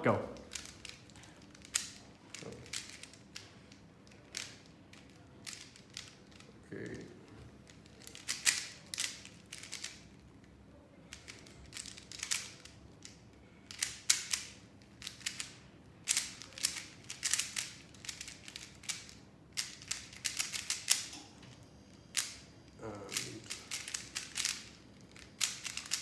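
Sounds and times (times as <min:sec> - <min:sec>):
plastic puzzle cube clicking: 0:00.4 - 0:06.5, 0:07.8 - 0:10.0, 0:11.1 - 0:21.1, 0:22.1 - 0:22.4, 0:23.1 - 0:26.0.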